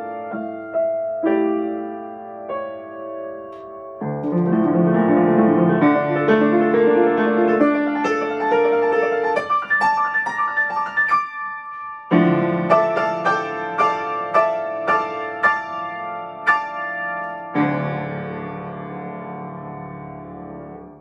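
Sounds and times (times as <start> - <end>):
solo grand piano piece: 0.0 - 21.0.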